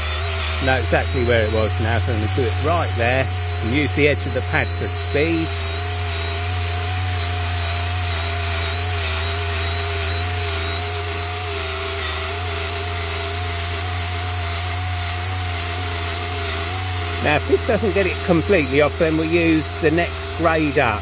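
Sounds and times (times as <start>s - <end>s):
rotary polisher motor whining: 0.0s - 21.0s.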